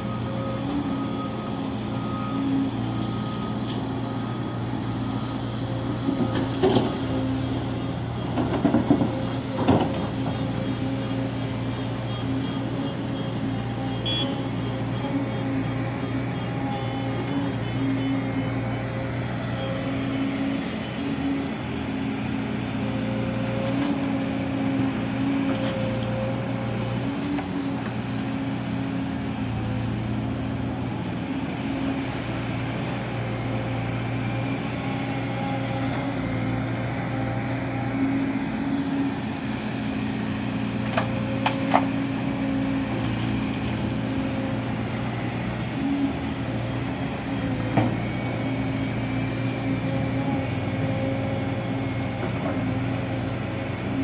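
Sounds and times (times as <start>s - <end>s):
heavy machinery engine running: 0.0s - 54.0s.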